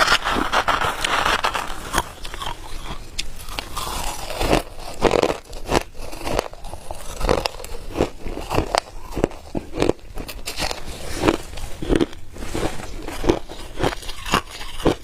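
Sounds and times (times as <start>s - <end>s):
person crunching ice: 0.0s - 15.0s.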